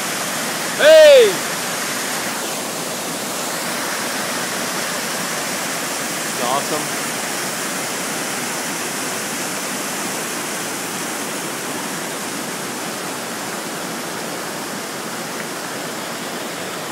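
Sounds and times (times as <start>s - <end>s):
water rushing over rocks: 0.0s - 16.9s.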